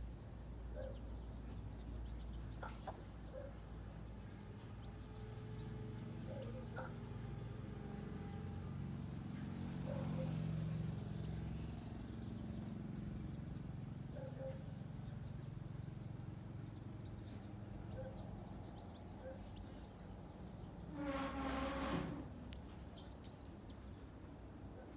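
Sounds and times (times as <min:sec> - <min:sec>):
high-pitched insect drone: 0:03.4 - 0:24.0.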